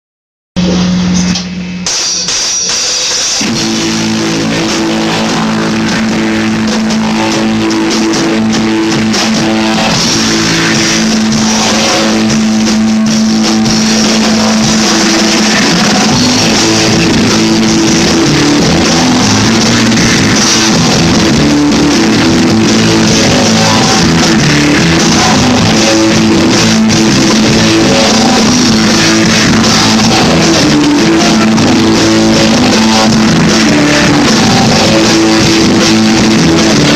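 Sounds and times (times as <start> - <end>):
guitar-led rock music: 0.6 - 36.9.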